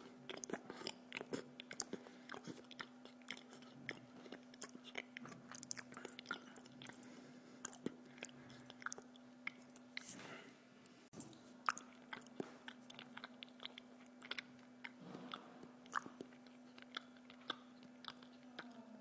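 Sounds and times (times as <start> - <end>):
faint electrical hum: 0.0 - 19.0
person chewing food: 0.0 - 19.0.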